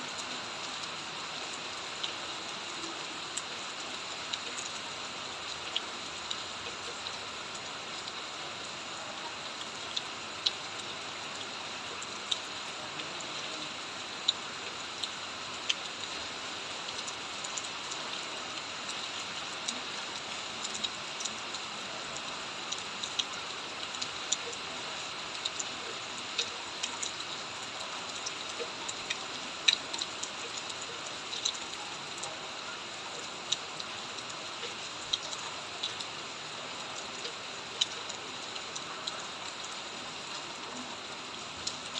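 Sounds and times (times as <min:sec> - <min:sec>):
raindrops ticking close by: 0:00.0 - 0:41.9
steady rain falling: 0:00.0 - 0:41.9.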